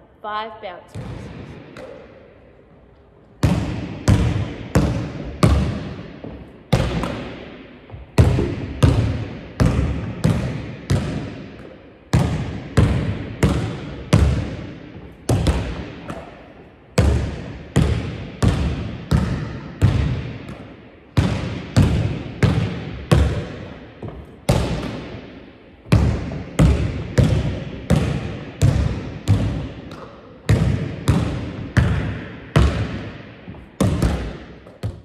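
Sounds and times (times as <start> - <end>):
basketball dribbled on wooden floor: 0.9 - 2.1, 3.4 - 16.4, 17.0 - 25.2, 25.8 - 35.0.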